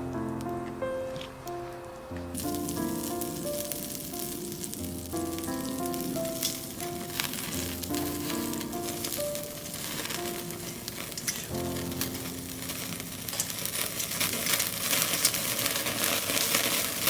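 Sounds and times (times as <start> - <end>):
sharp crackling pops: 0.0 - 17.0
food sizzling on a grill: 2.3 - 17.0.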